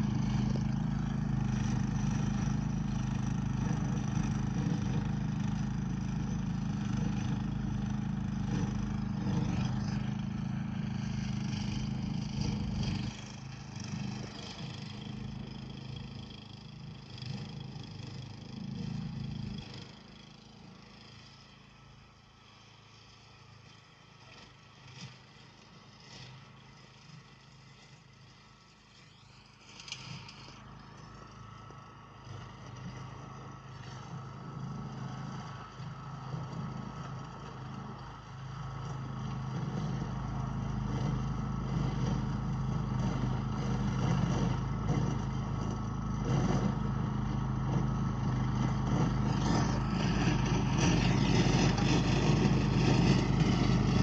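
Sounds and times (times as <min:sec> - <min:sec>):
dethatcher engine running: 0:00.0 - 0:22.0, 0:26.0 - 0:54.0.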